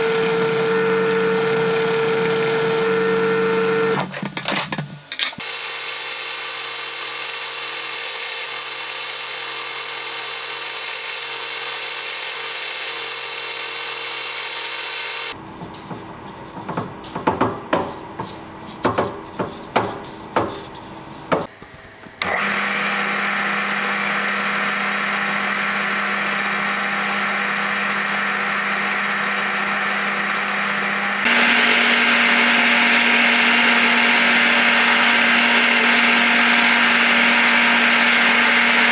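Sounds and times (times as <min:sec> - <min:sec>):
drill press running: 0:00.0 - 0:15.4, 0:22.2 - 0:38.9.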